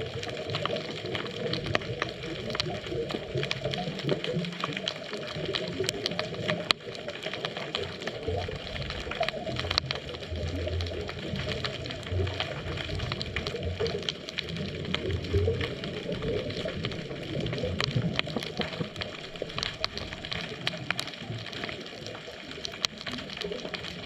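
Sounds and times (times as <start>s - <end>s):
sharp clicks and crackles: 0.0s - 24.0s
underwater low rumble: 0.0s - 24.0s.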